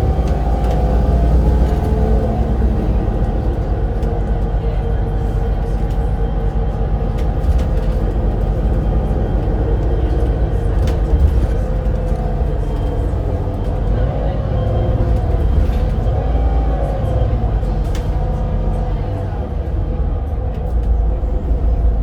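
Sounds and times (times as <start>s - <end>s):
bus engine rumbling: 0.0s - 22.0s.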